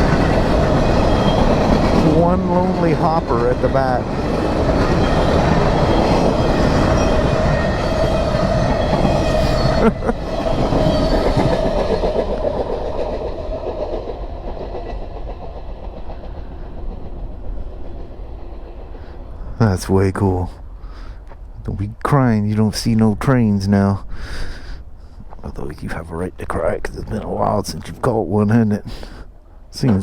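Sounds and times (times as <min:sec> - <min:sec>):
freight train cars rumbling past: 0:00.0 - 0:30.0.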